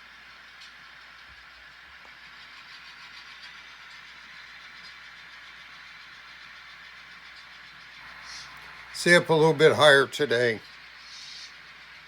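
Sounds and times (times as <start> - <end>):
locomotive running hiss: 0.0 - 12.0.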